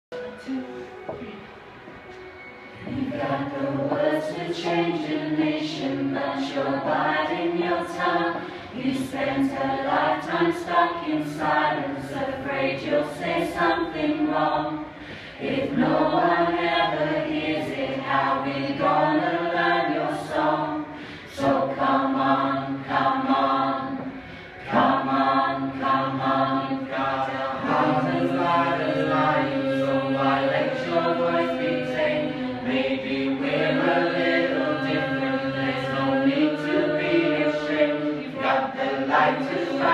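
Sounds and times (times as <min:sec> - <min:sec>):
group of voices singing: 0:00.2 - 0:39.9.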